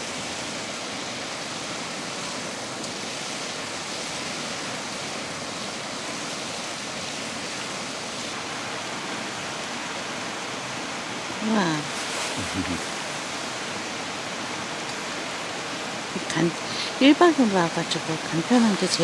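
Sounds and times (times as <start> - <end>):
stream rushing water: 0.0 - 19.0.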